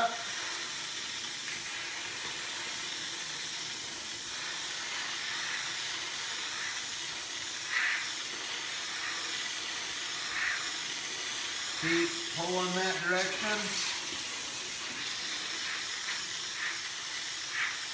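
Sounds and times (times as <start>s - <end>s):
steam cleaner hissing: 0.0s - 17.9s.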